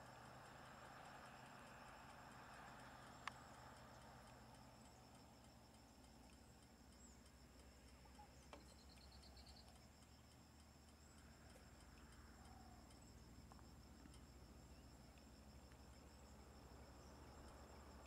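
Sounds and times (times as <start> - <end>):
faint clicks: 0.0 - 18.0
faint regular ticking: 0.0 - 18.0
high insect drone: 0.0 - 18.0.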